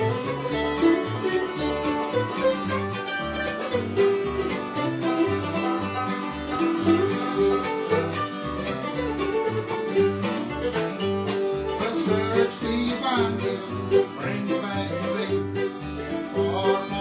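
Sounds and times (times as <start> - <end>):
banjo: 0.0 - 17.0
bass keeping a beat: 0.0 - 17.0
fiddle: 0.0 - 17.0
guitar: 0.0 - 17.0.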